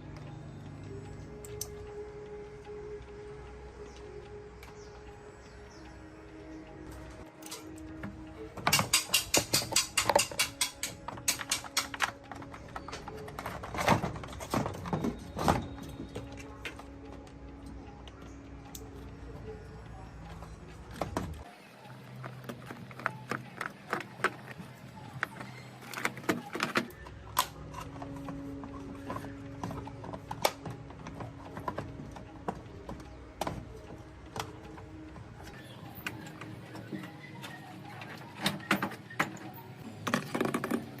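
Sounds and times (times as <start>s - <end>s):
soft background music: 0.0s - 41.0s
tools and metal parts clicking: 6.9s - 19.1s, 20.2s - 41.0s.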